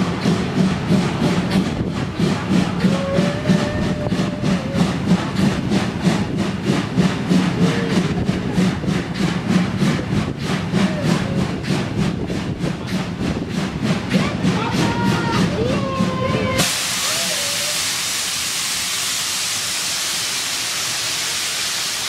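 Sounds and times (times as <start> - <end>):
steam locomotive chuffing: 0.0 - 22.0
train running on track: 0.0 - 22.0.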